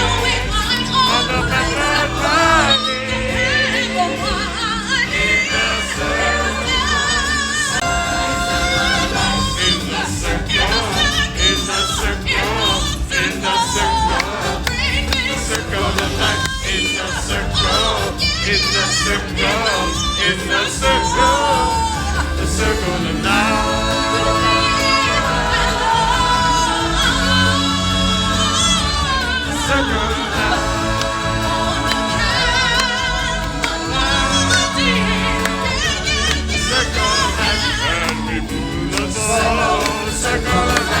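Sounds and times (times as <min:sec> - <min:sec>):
band playing: 0:00.0 - 0:41.0
choir and soloists singing: 0:00.0 - 0:41.0.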